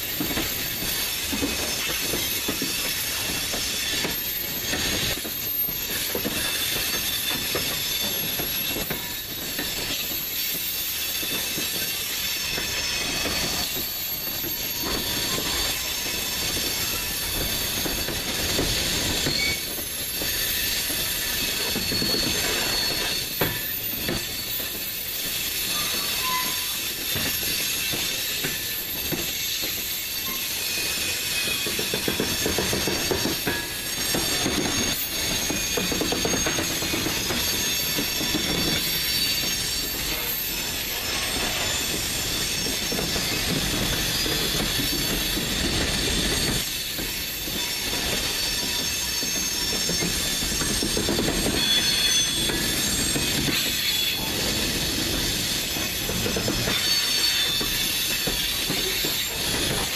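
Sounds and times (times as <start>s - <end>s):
wheels squealing against rails: 0.0s - 59.9s.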